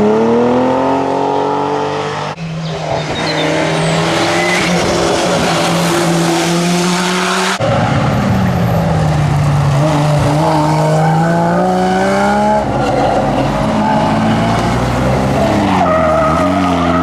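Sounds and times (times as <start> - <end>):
rally car engines: 0.0 - 17.0.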